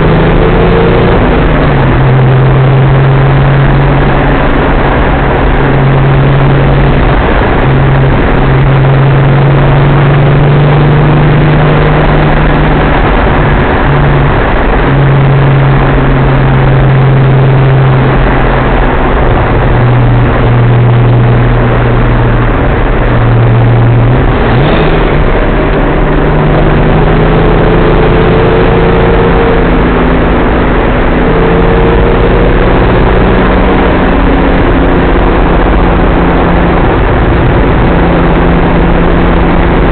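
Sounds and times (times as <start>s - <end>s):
car engine while driving: 0.0s - 39.9s
road and wind noise: 0.0s - 39.9s.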